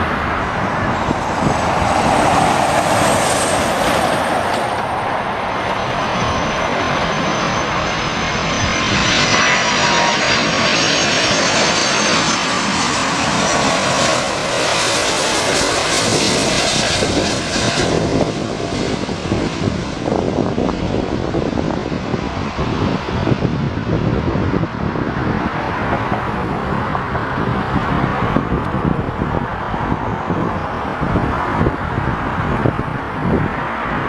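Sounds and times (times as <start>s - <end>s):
jet airliner passing overhead: 0.0s - 34.0s.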